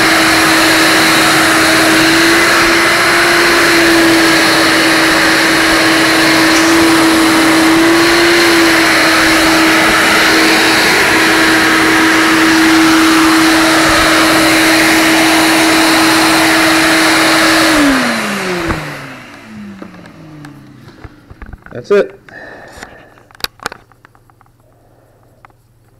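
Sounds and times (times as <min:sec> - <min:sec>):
vacuum motor hum: 0:00.0 - 0:25.9.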